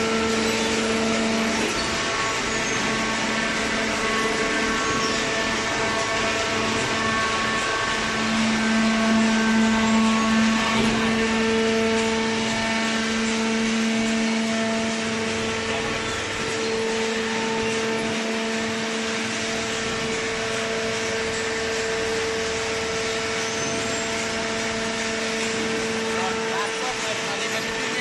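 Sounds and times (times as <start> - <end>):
motor hum: 0.0 - 28.0
rushing mechanical noise: 0.0 - 28.0.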